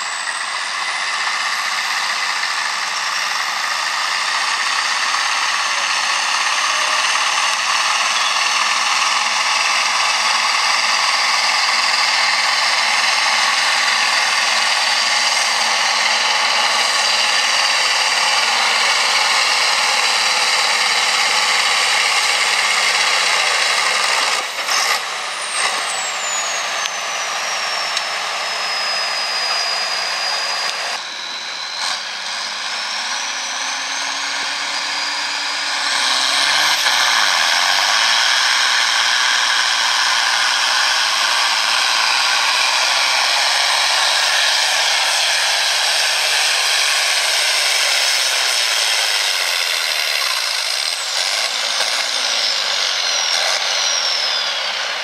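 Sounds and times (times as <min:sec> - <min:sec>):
high turbo whistle: 0:00.0 - 0:55.0
tractor diesel engine under load: 0:00.0 - 0:55.0.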